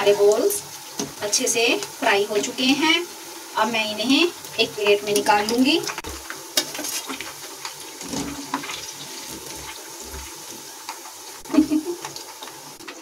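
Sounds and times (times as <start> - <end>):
hot oil sizzling and bubbling: 0.0 - 13.0.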